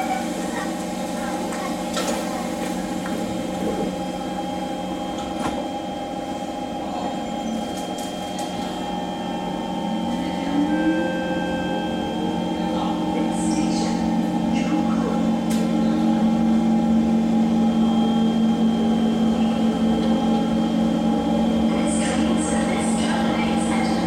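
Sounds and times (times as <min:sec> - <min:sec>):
train equipment hum: 0:00.0 - 0:24.0.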